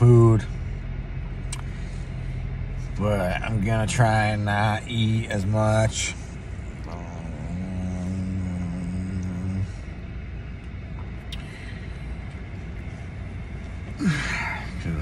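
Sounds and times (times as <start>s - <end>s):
car cabin rumble: 0.0s - 15.0s
low droning tone: 0.0s - 15.0s.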